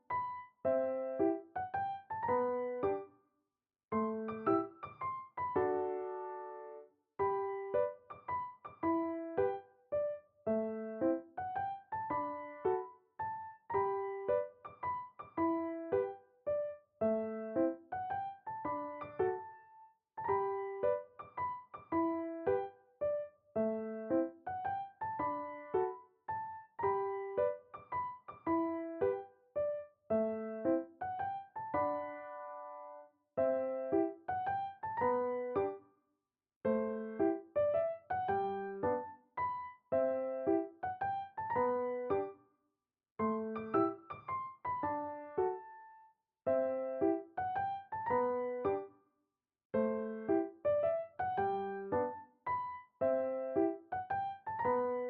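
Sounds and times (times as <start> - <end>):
gentle piano music: 0.0 - 3.2, 3.9 - 35.9, 36.6 - 42.4, 43.2 - 49.0, 49.7 - 55.0.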